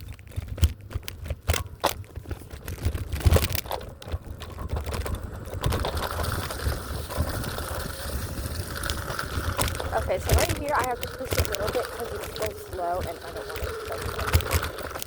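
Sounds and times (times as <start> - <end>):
scooter rattling on rocky trail: 0.0 - 15.0
scooter running noise: 0.0 - 15.0.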